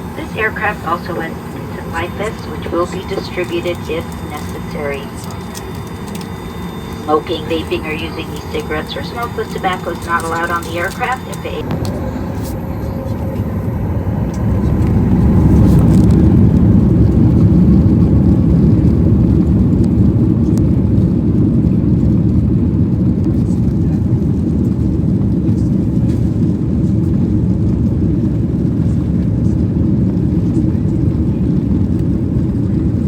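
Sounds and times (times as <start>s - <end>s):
jet engine rumble in cabin: 0.0s - 33.0s.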